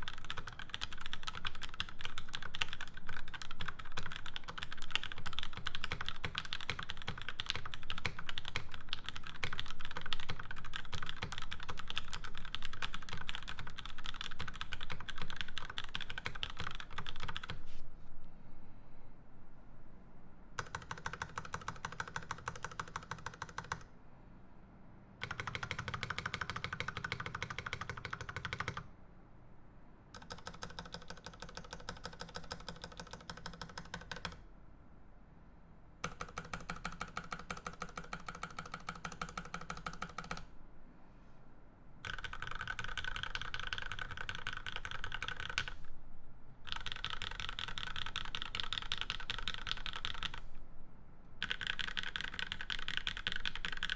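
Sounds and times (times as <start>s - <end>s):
mechanical keyboard typing: 0.0s - 17.6s, 20.6s - 23.9s, 25.2s - 28.9s, 30.2s - 34.4s, 36.0s - 40.5s, 42.0s - 45.8s, 46.7s - 50.5s, 51.4s - 53.9s.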